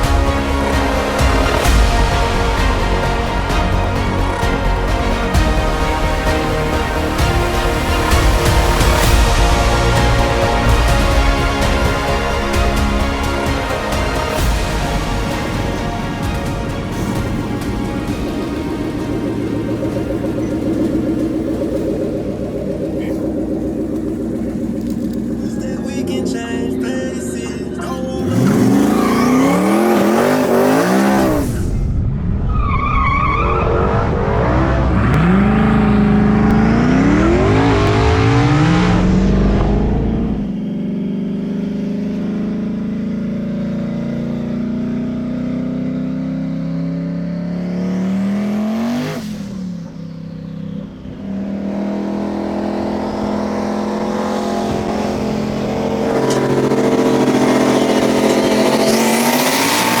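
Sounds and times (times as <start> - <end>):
car engines accelerating hard: 0.0 - 60.0.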